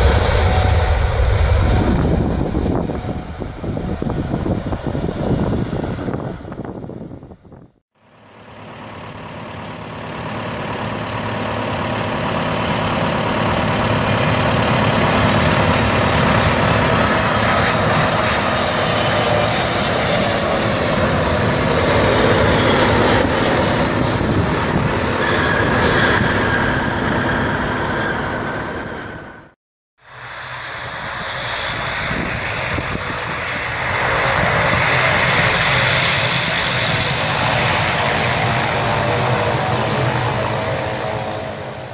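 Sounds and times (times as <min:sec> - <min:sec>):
jet engine whine falling in pitch: 0:00.0 - 0:41.9
jet engines rumbling: 0:00.0 - 0:41.9.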